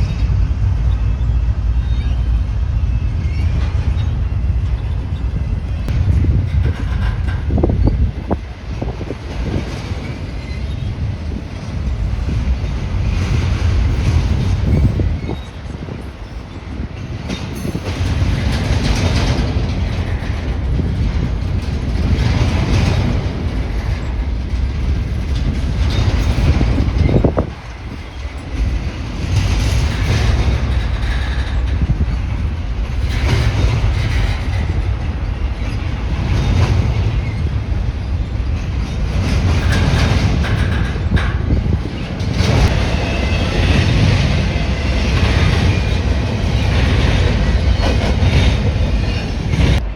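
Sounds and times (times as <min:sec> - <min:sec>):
freight train wheels rumbling: 0:00.0 - 0:49.9.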